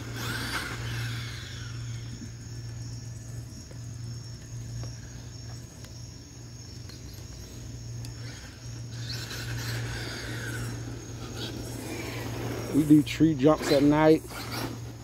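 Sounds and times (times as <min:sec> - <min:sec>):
crickets chirping: 0:00.0 - 0:15.0
low steady hum: 0:00.0 - 0:15.0.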